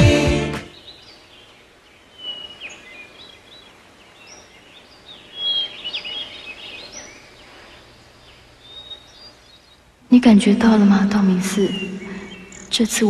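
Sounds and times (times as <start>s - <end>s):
faint steady background hiss: 0.0s - 13.0s
small birds chirping: 0.0s - 13.0s.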